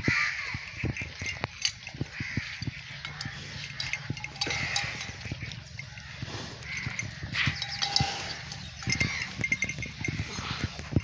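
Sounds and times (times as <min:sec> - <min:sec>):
cattle crunching fodder: 0:00.0 - 0:11.0.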